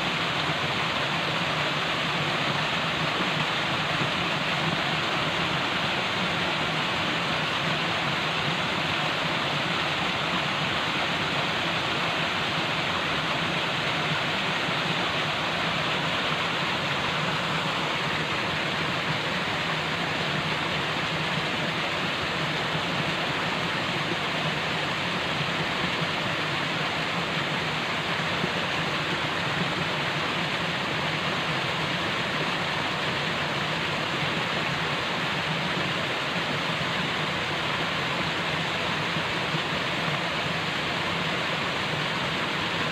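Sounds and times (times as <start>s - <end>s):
falling water rushing: 0.0s - 42.9s.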